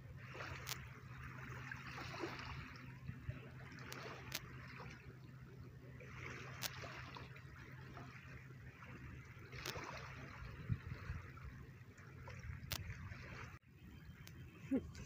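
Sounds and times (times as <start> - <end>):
river water lapping: 0.0 - 15.0.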